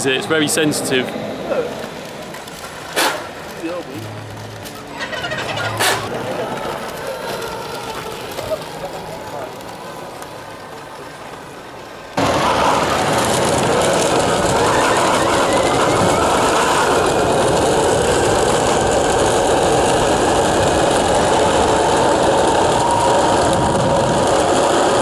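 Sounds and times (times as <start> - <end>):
ride-on vehicle rattling rumble: 1.8 - 25.0.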